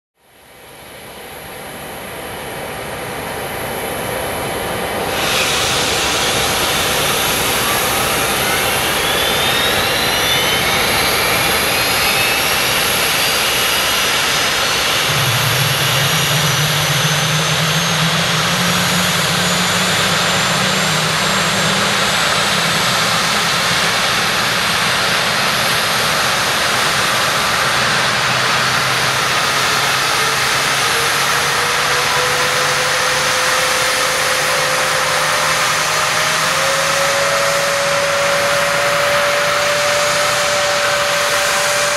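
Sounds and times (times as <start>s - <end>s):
jet engine whine spooling up: 0.2s - 41.9s
low hum: 0.4s - 41.9s.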